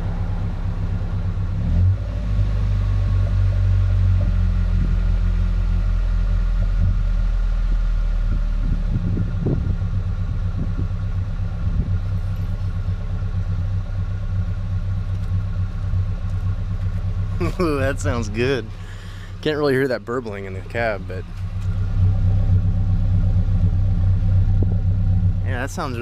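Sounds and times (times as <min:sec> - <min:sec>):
engine exhaust idling: 0:00.0 - 0:26.0.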